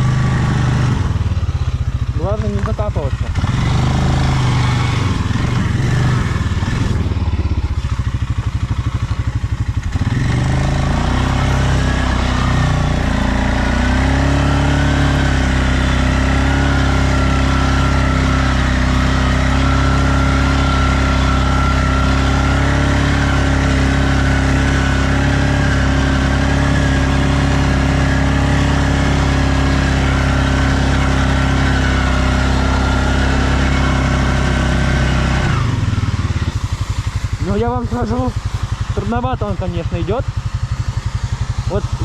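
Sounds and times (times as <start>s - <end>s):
atv engine under heavy load: 0.0s - 42.0s.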